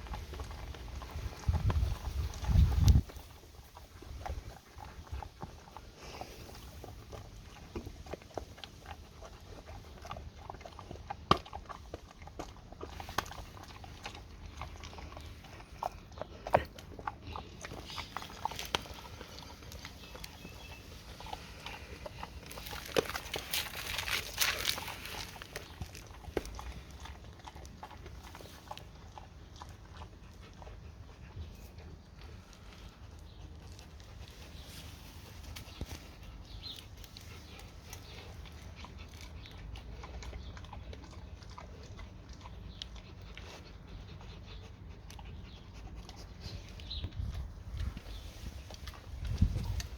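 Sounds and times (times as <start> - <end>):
dog chewing with crunches: 0.0 - 49.9.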